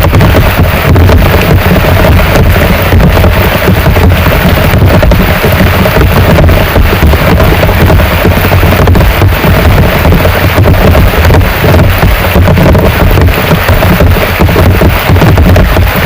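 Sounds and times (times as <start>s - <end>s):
deep rumble: 0.0s - 16.0s
heavy rain pouring: 0.0s - 16.0s.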